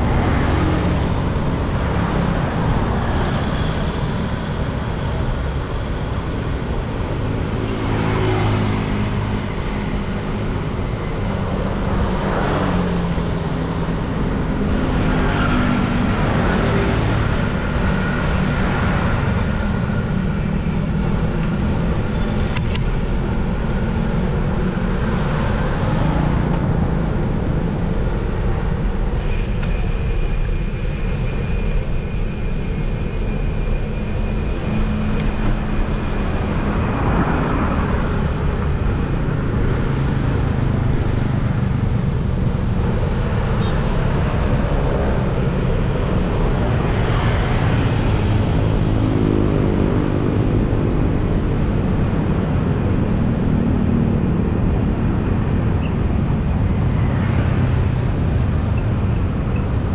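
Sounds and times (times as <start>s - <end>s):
traffic rumble: 0.0s - 59.9s
vehicles passing by: 0.0s - 59.9s.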